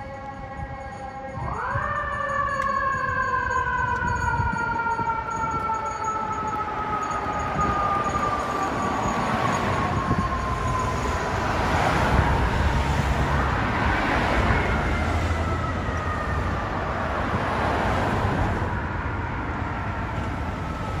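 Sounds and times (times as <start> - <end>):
city traffic: 0.0 - 21.0.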